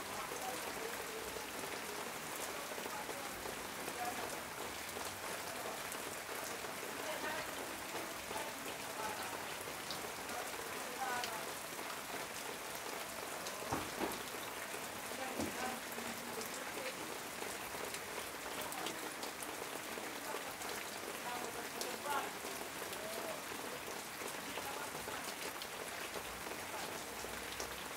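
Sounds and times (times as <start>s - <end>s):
rain on a metal roof: 0.0s - 27.9s.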